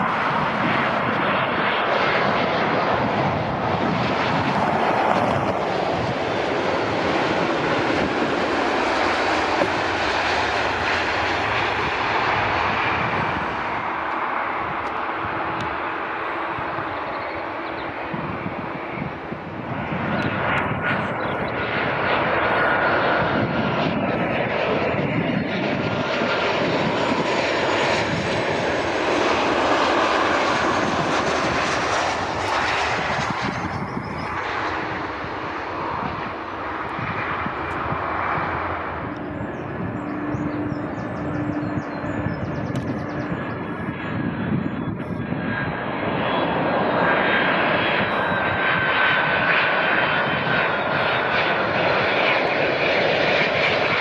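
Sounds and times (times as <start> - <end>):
jet airliner engines passing: 0.0 - 54.0
jet noise with thin high whine: 0.0 - 54.0.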